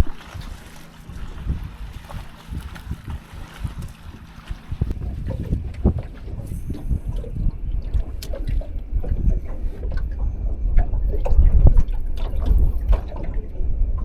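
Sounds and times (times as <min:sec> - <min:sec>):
waves lapping against boat hull: 0:00.0 - 0:14.0
wind rumble on microphone: 0:00.0 - 0:14.0.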